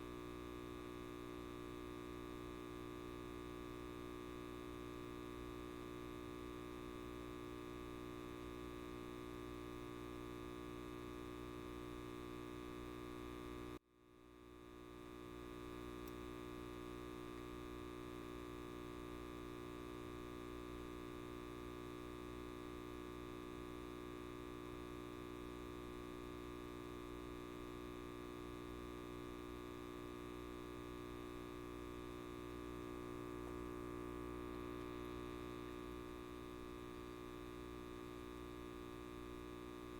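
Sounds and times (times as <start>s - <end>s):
light bulb electrical buzz: 0.0s - 39.9s.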